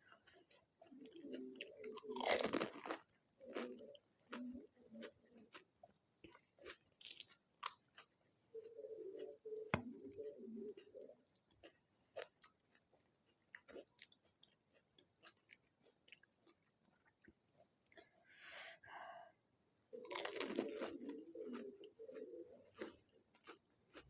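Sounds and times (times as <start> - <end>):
crunchy chewing: 0.0 - 18.1, 20.0 - 24.0.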